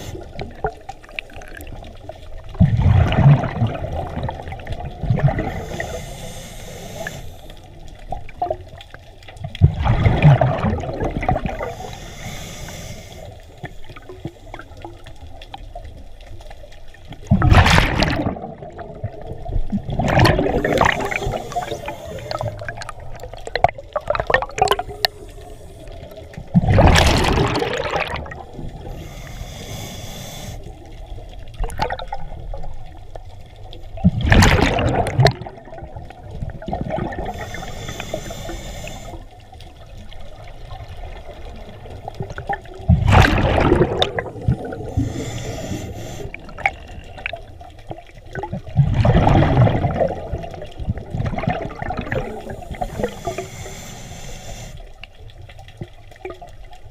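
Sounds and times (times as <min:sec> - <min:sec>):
exhaled bubbles gushing underwater: 0:00.0 - 0:06.3, 0:07.0 - 0:12.0, 0:13.6 - 0:29.2, 0:30.8 - 0:53.8, 0:55.0 - 0:56.9.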